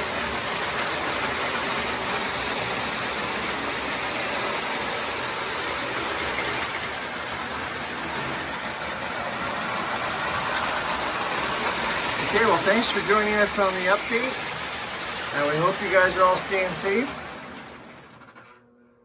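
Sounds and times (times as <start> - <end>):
wheels rumbling on rails: 0.0 - 18.4
toy train motors whirring: 0.0 - 18.5.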